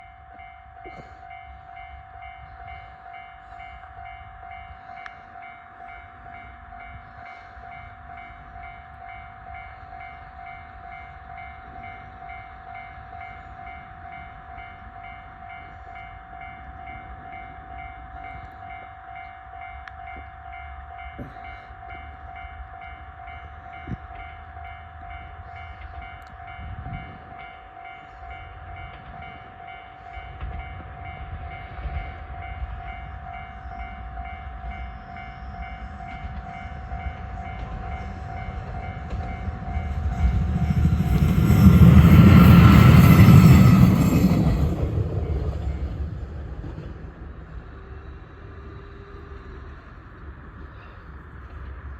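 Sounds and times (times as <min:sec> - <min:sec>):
level-crossing warning bell: 0:00.0 - 0:46.1.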